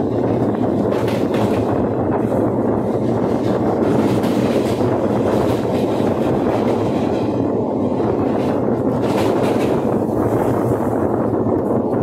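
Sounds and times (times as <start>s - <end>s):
train wheels on rails: 0.0s - 12.0s
wind rushing: 0.0s - 12.0s.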